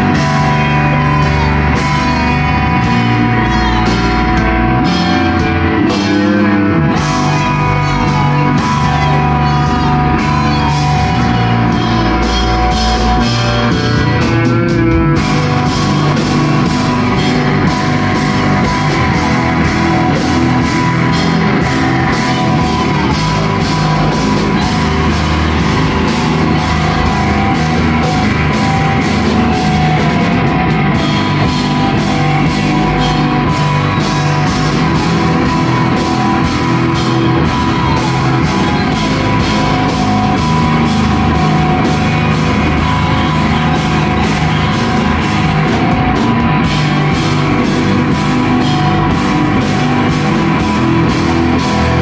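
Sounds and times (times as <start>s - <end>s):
live rock band: 0.0s - 52.0s.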